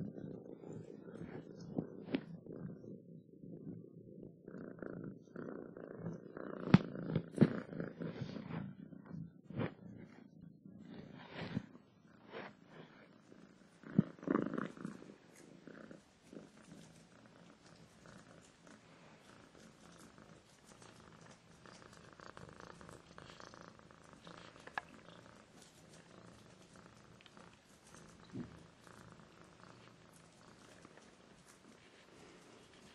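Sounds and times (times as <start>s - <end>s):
cat purring: 0.0s - 32.9s.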